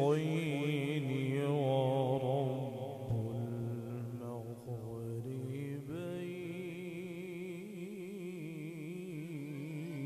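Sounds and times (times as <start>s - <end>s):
man reciting melodically with vibrato: 0.0s - 10.0s.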